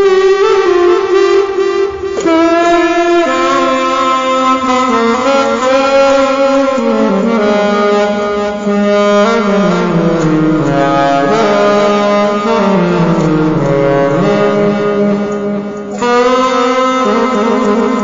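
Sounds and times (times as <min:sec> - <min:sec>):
saxophone slow melody: 0:00.0 - 0:18.0.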